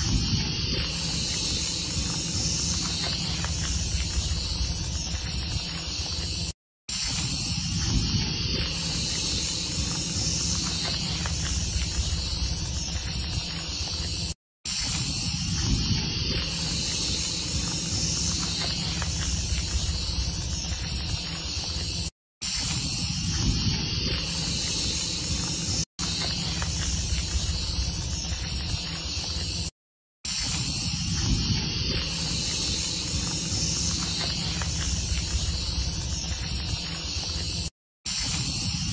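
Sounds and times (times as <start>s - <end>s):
rattlesnake tail rattle buzzing: 0.0s - 29.7s, 30.3s - 38.9s.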